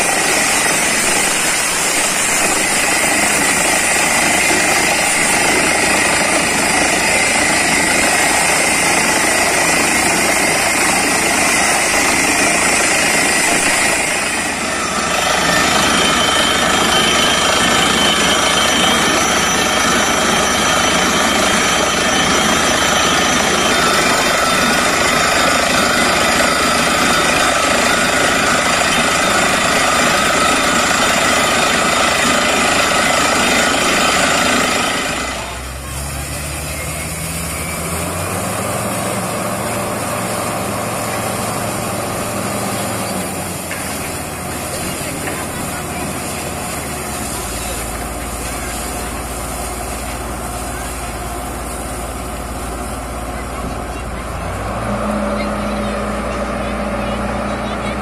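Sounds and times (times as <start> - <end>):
drilling rig hammer drilling: 0.0 - 58.0.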